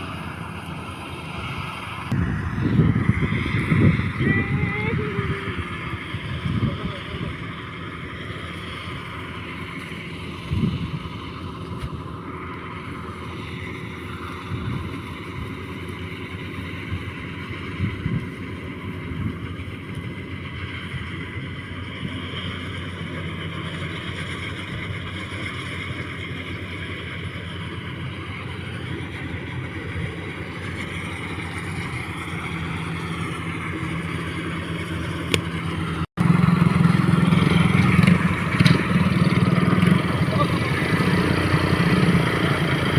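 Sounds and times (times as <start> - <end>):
engine running: 0.0 - 42.9
loud engine: 0.0 - 42.9.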